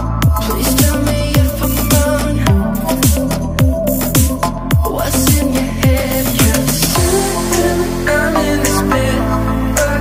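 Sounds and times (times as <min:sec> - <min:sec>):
deep bass hits: 0:00.1 - 0:08.6.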